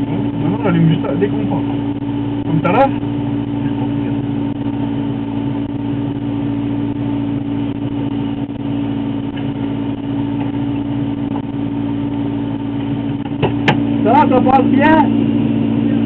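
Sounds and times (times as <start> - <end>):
engine humming steadily: 0.0 - 16.0.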